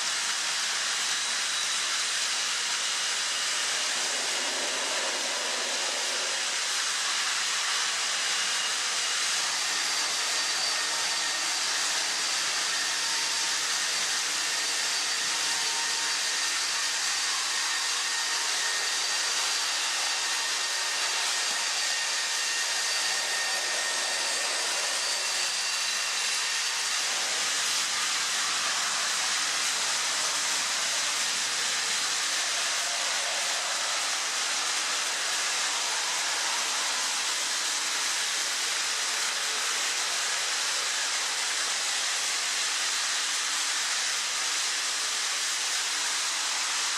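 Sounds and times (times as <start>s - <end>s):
toy trains whirring on plastic track: 0.0s - 46.9s.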